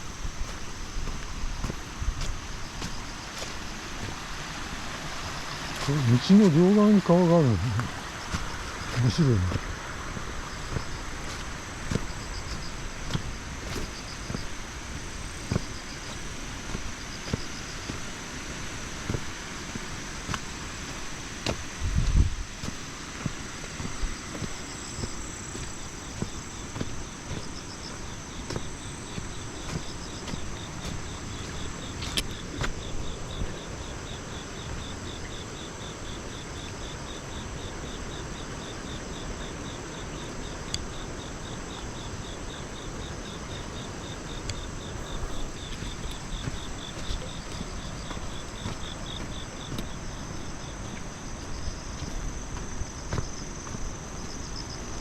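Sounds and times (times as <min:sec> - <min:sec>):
crickets and insects calling: 0:00.0 - 0:55.0
fast pulsing insect trill: 0:00.0 - 0:55.0.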